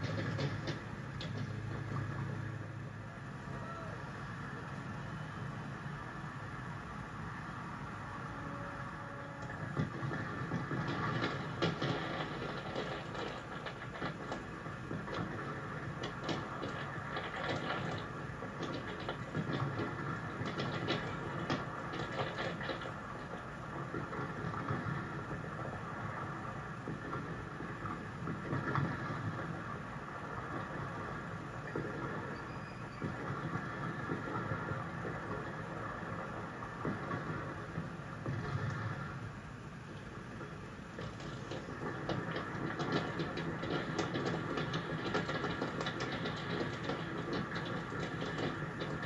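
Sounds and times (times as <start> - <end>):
distant fireworks popping and crackling: 0.0 - 49.0.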